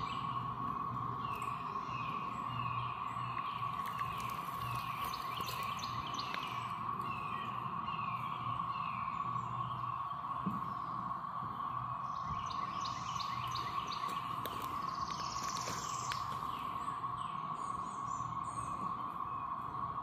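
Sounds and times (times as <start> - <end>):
cicadas droning: 0.0 - 20.0
songbird chirping: 0.0 - 20.0.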